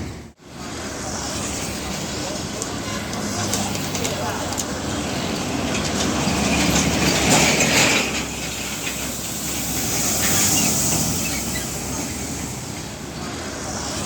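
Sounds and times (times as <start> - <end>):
heavy trucks passing: 0.0 - 14.0.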